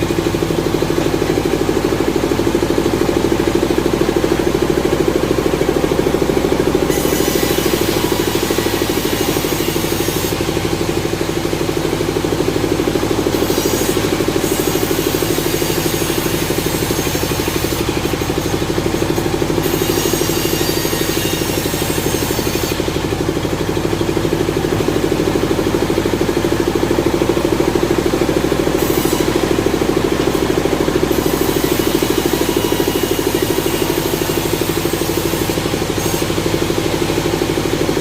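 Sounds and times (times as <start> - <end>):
engine running with fast pulse: 0.0 - 38.0.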